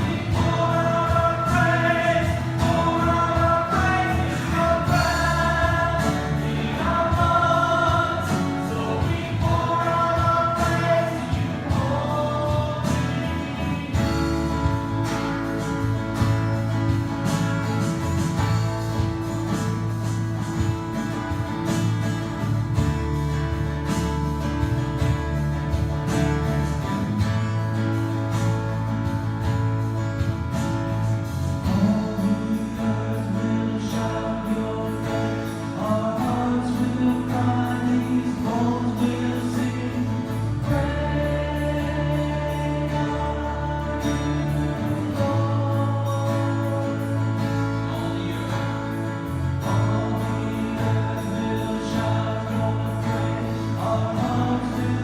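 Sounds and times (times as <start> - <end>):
congregation singing with instruments: 0.0 - 28.4, 29.0 - 55.0.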